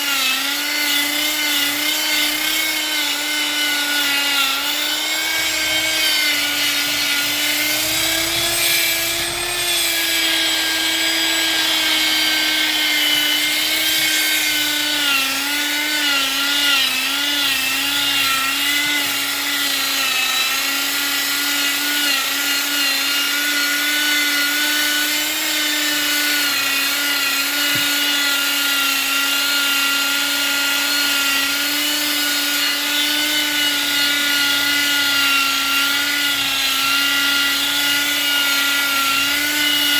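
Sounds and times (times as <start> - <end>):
power tool whining on wood: 0.0 - 39.9.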